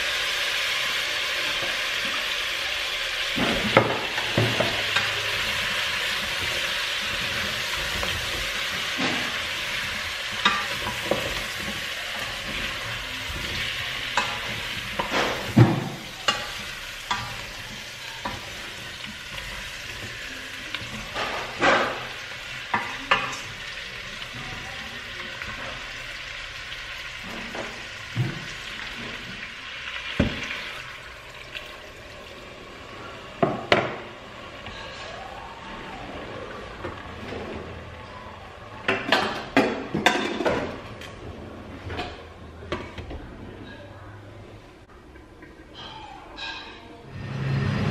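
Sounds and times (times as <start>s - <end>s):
meat and potatoes sizzling in pot: 0.0s - 41.2s.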